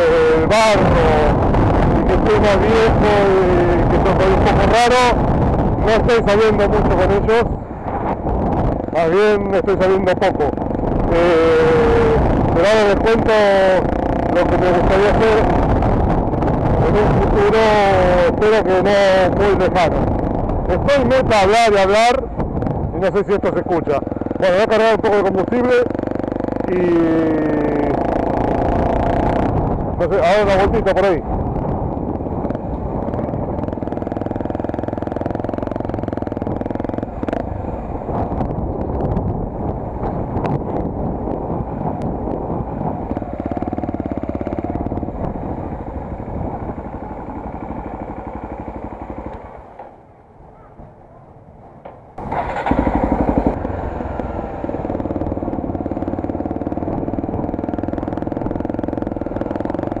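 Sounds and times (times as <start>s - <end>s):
motorcycle engine running: 0.0s - 50.7s, 52.2s - 60.0s
wind noise on microphone: 0.0s - 60.0s.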